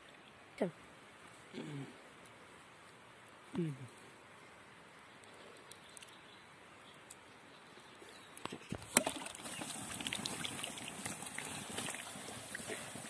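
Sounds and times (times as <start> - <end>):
embers crackling and hissing: 0.1 - 13.0.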